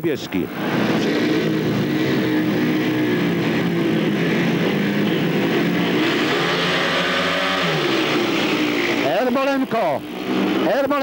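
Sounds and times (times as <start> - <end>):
motorcycle engines revving: 0.1 - 11.0.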